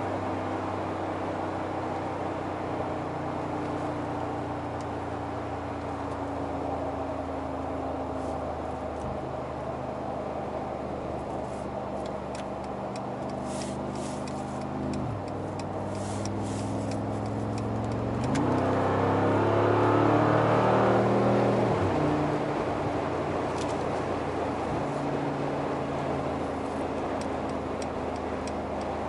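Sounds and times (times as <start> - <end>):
car engine hum from inside cabin: 0.0 - 29.0.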